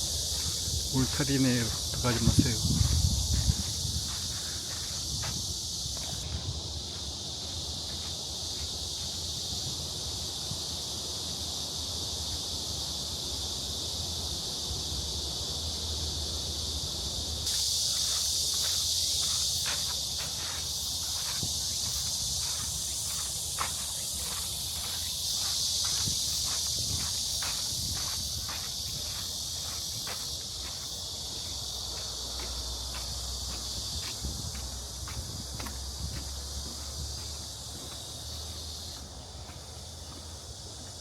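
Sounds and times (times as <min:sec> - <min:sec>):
footsteps along a path: 0:00.0 - 0:11.7, 0:16.3 - 0:41.0
insect chorus: 0:00.0 - 0:41.0.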